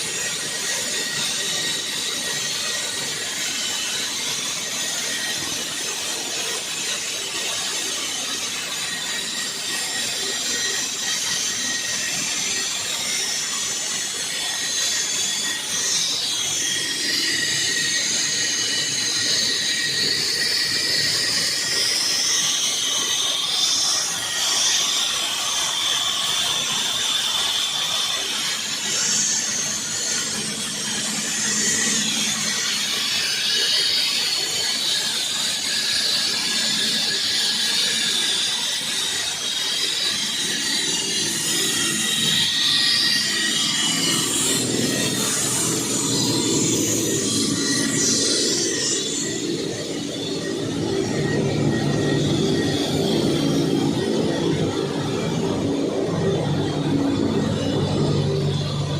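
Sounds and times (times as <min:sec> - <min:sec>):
saw blade cutting floor: 0:00.0 - 0:58.9.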